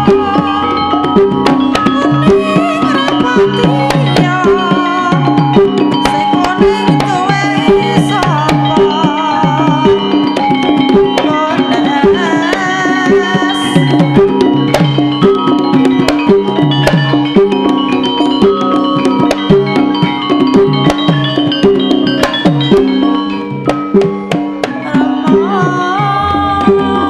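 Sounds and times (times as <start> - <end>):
hand drums beating: 0.0 - 27.0
ringing metallophone notes: 0.0 - 27.0
wavering melody line: 0.0 - 27.0.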